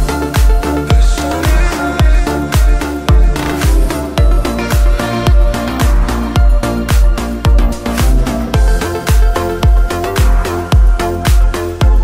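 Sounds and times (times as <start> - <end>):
deep kick drum: 0.0 - 12.0
sustained synth chords: 0.0 - 12.0.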